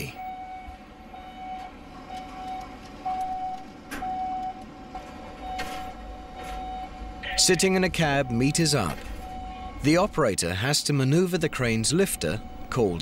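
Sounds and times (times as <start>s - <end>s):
crane warning beeps: 0.1s - 4.7s, 5.3s - 10.2s, 11.6s - 13.0s.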